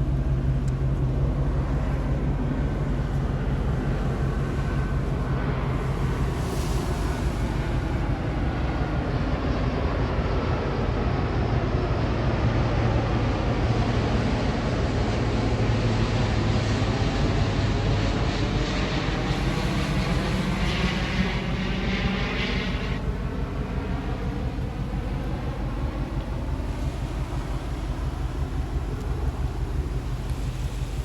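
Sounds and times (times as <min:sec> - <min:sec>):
jet engine rumble overhead: 0:00.0 - 0:31.0.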